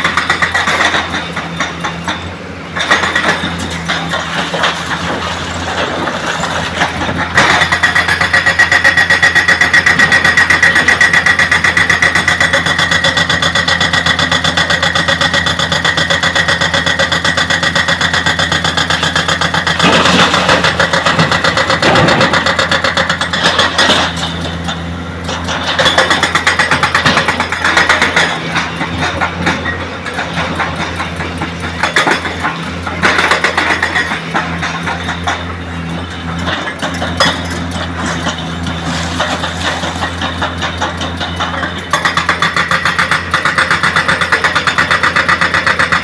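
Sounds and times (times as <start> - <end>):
heavy diesel engine running hard: 0.0 - 46.0.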